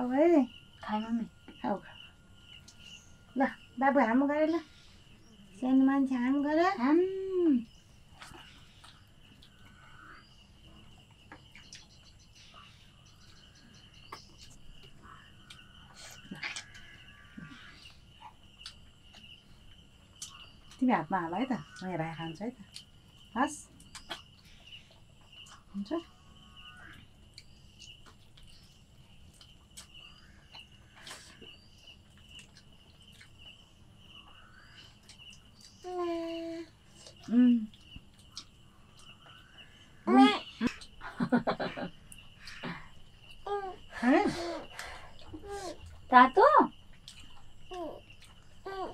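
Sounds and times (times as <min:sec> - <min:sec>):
cricket chirping: 0:00.0 - 0:48.9
high-pitched insect trill: 0:00.0 - 0:48.9.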